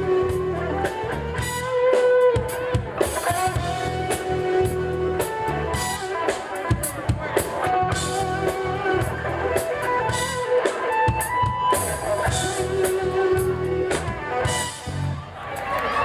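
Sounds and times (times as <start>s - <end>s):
drum kit beat: 0.0s - 15.2s
guitar: 0.0s - 16.0s
live band playing disco-funk: 0.0s - 16.0s.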